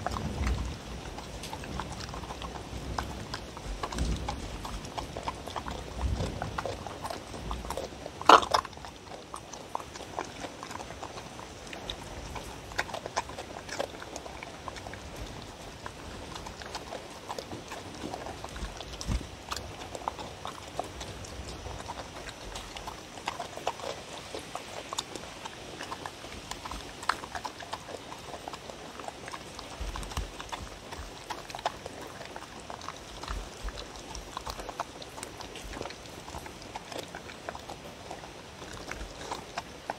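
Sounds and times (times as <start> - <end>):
dog chewing and smacking: 0.0 - 39.9
teeth clicking against bowl: 0.0 - 39.9.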